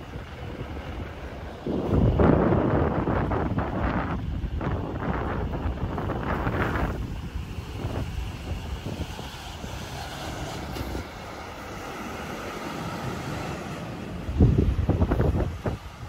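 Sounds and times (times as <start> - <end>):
diesel coach engine pulling away: 0.0 - 16.0.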